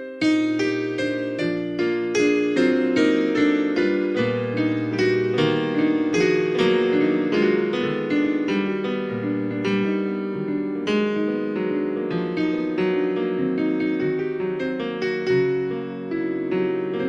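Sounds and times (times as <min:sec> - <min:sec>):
slow piano melody: 0:00.0 - 0:17.0
held low keyboard notes: 0:01.2 - 0:17.0.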